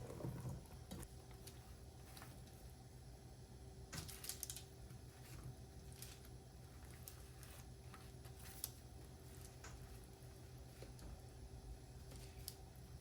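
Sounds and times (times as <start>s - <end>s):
steady room hum: 0.0s - 13.0s.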